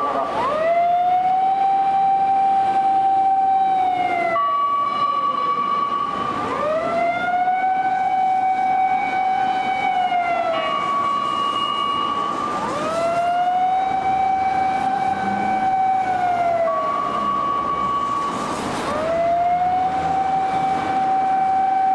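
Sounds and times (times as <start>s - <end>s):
electronic siren wailing: 0.0s - 21.9s
high steady siren tone: 0.0s - 21.9s.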